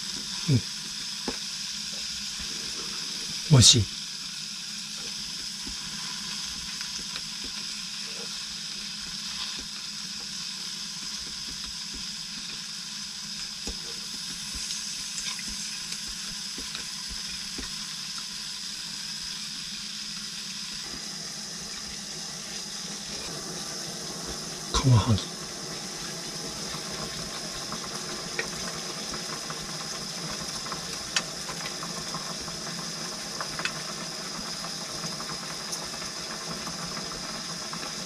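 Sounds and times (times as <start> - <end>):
fish sizzling in frying pan: 0.0 - 24.7, 25.3 - 38.0.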